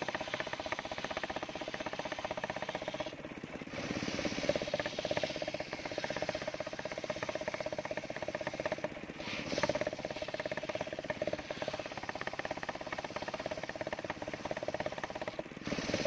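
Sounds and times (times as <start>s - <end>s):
circular sawmill running: 0.0s - 16.0s.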